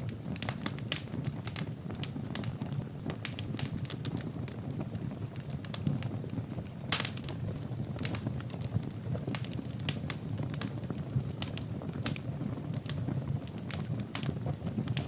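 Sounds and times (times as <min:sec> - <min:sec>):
fire crackles and pops: 0:00.0 - 0:15.0
wood fire flames rumbling: 0:00.0 - 0:15.0.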